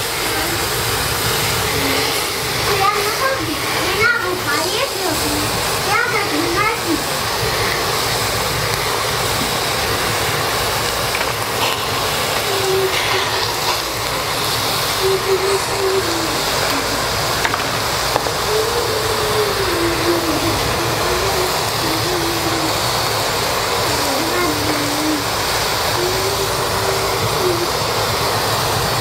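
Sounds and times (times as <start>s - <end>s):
mountain stream rushing: 0.0s - 29.0s.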